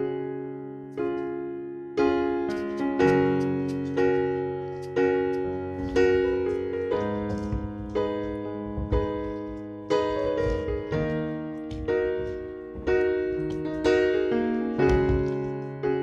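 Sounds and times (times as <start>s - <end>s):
soft electric piano chords: 0.0s - 16.0s.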